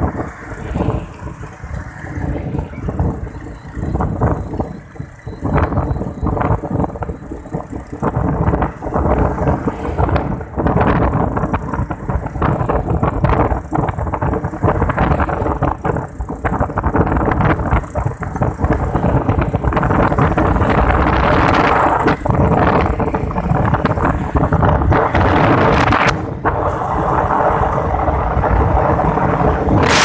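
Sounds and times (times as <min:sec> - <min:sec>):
vehicle engine humming: 0:00.0 - 0:30.0
wind buffeting microphone: 0:00.0 - 0:30.0.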